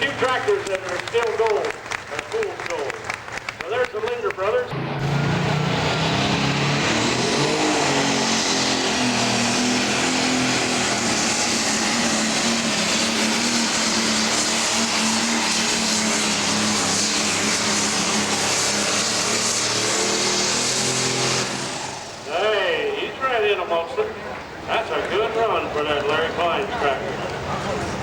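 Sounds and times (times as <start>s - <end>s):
diesel engine at full throttle: 0.0s - 28.0s.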